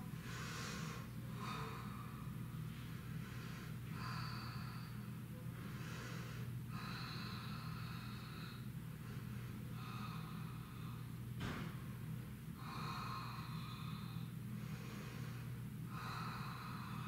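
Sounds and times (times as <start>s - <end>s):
person breathing slowly: 0.0s - 11.2s, 12.6s - 17.0s
steady low hum: 0.0s - 17.0s.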